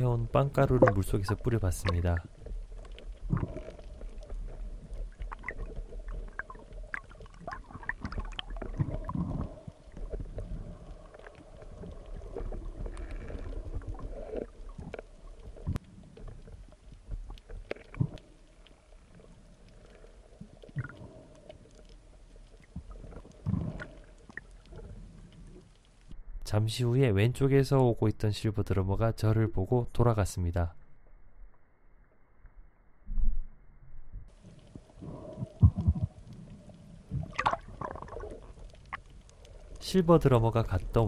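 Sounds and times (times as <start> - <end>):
muffled underwater water rumble: 0.0 - 30.3, 33.0 - 41.0.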